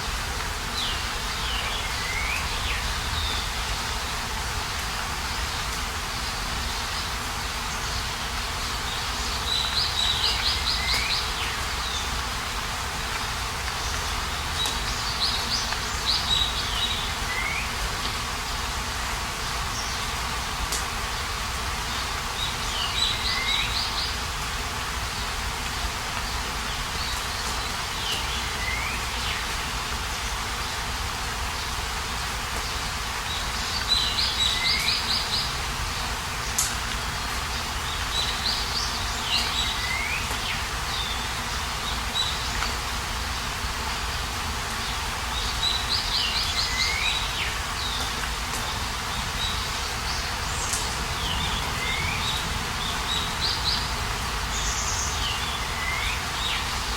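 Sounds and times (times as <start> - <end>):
steady outdoor hiss: 0.0 - 56.9.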